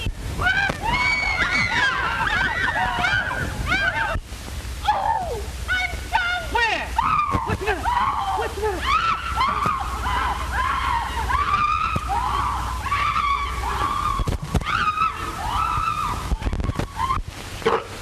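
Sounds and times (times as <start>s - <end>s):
film soundtrack hiss and hum: 0.0s - 18.0s.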